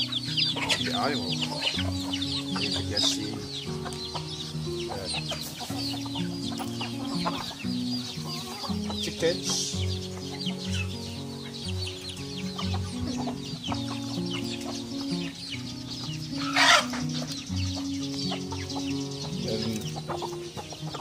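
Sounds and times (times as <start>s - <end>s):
chickens clucking: 0.0s - 21.0s
high bird chirps: 0.0s - 21.0s
music of slow held notes: 0.0s - 21.0s.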